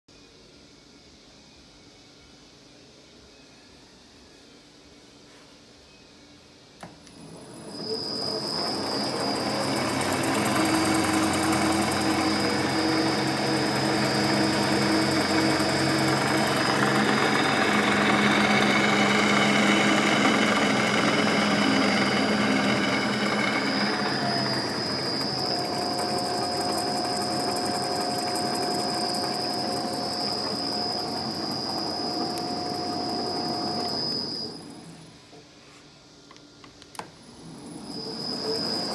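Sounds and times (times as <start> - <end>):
lathe geared hum and whine: 5.9 - 38.9.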